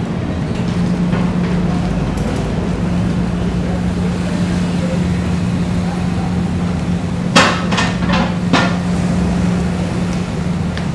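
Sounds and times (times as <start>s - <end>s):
bus engine humming: 0.0s - 10.9s.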